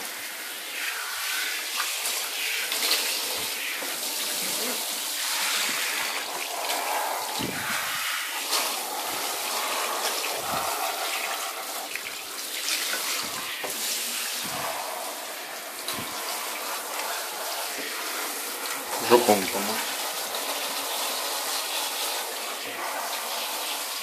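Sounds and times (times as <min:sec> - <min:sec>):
shower spray hissing: 0:00.0 - 0:24.0.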